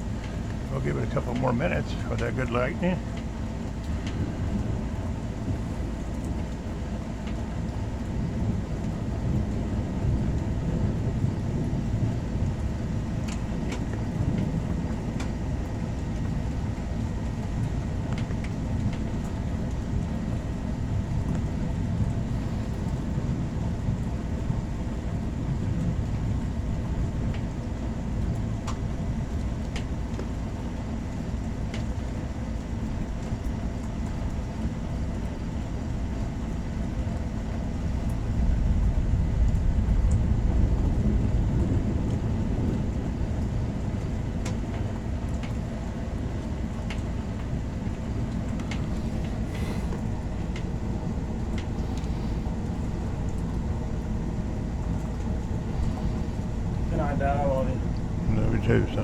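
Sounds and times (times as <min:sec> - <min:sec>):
low thunder rumble: 0:00.0 - 0:31.1, 0:33.0 - 0:59.0.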